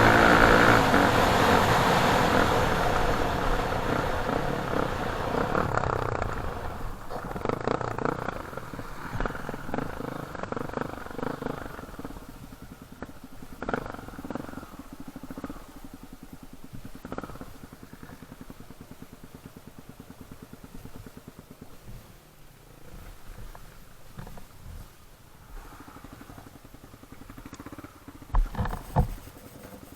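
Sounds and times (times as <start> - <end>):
dirt bike engine idling: 0.0 - 29.9.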